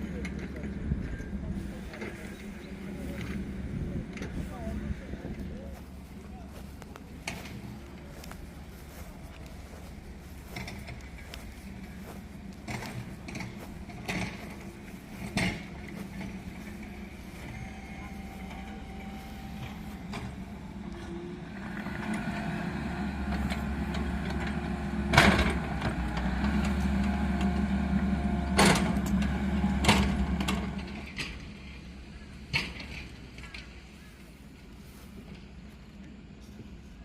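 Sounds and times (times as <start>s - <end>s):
machine engine running: 0.0s - 32.2s.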